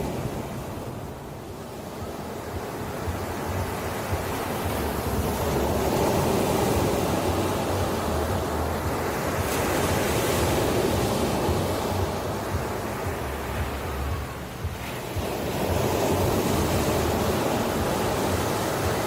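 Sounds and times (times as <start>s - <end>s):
ocean waves breaking: 0.0s - 19.0s.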